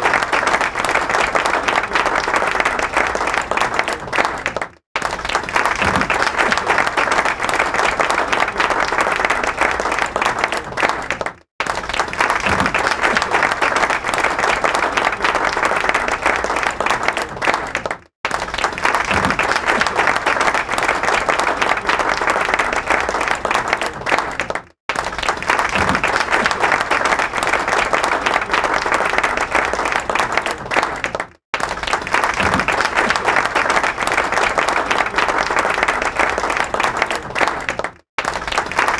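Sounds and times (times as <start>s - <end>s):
large crowd applauding: 0.0s - 38.9s.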